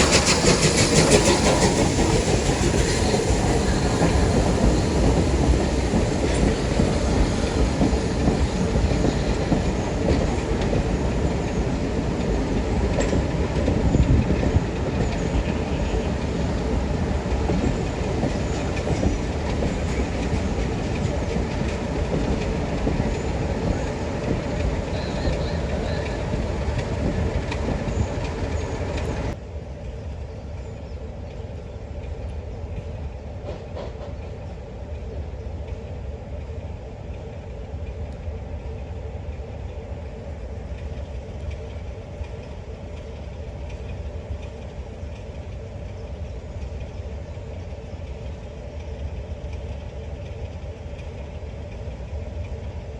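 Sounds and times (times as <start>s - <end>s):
clickety-clack of train wheels: 0.0s - 52.9s
train rumbling on rails: 0.0s - 52.9s.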